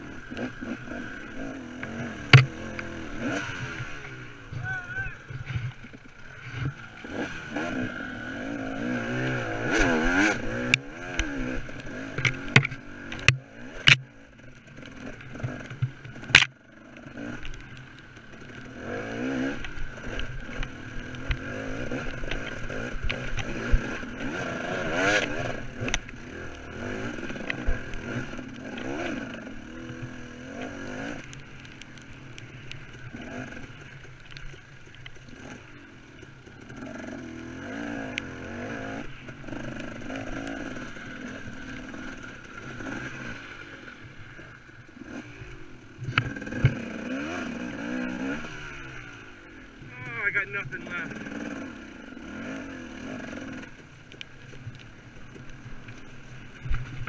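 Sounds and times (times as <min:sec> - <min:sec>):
dirt bike engine revving: 0:00.0 - 0:54.5.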